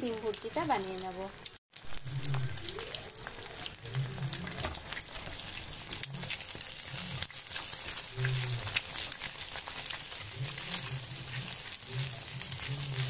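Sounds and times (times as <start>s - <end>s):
eggs sizzling in oil: 0.0s - 13.0s.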